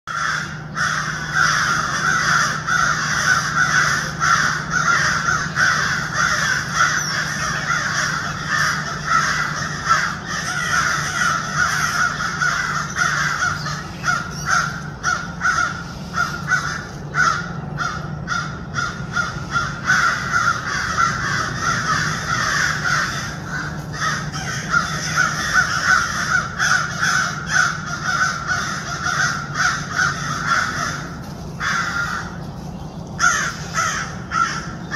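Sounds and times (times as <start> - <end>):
animal calls: 0.1 - 34.9
steady low hum: 0.1 - 34.9.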